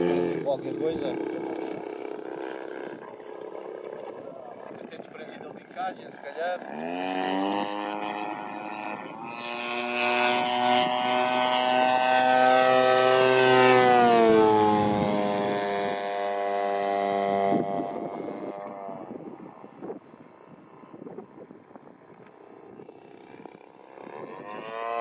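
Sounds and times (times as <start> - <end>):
faint wind noise: 0.0 - 11.2, 12.7 - 25.0
model airplane engine: 0.0 - 25.0.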